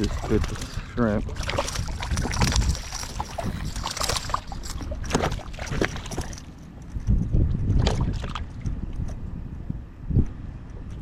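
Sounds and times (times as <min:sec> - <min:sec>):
water around hull: 0:00.0 - 0:11.0
wind buffeting microphone: 0:00.0 - 0:11.0.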